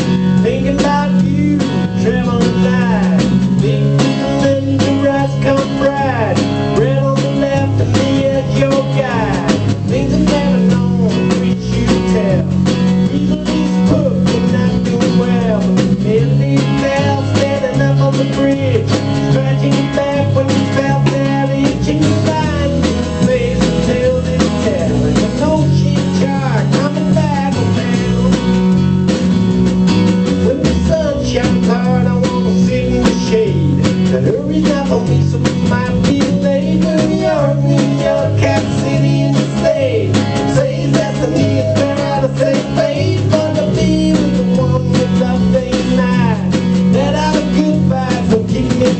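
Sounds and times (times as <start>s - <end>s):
guitar-led song with bass: 0.0s - 48.9s.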